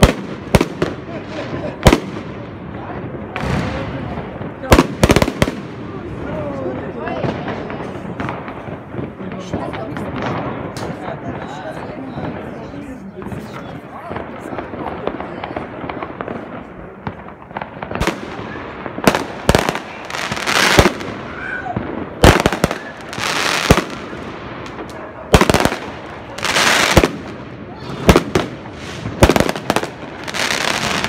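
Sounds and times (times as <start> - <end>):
fireworks bangs: 0.0 - 31.0
fireworks crackle: 0.0 - 31.0.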